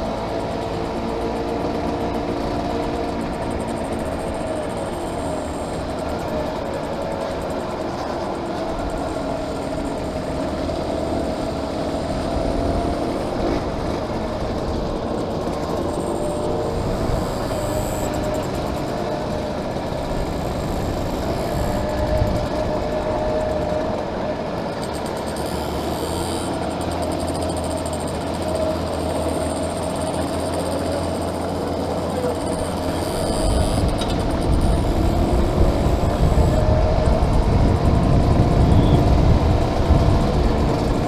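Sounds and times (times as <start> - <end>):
motorbike engine cruising: 0.0 - 41.0
wind and road noise: 0.0 - 41.0.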